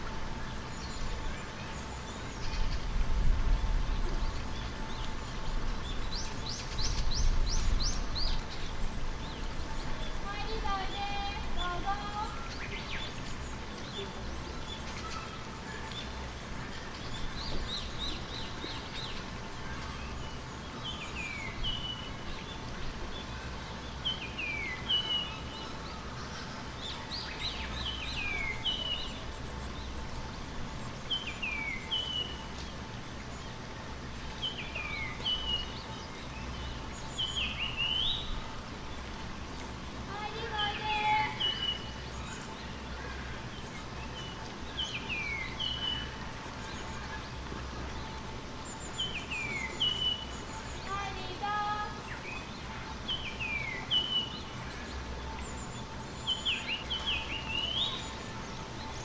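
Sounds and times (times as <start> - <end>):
low background hum: 0.0 - 59.0
bird chirping: 0.4 - 59.0.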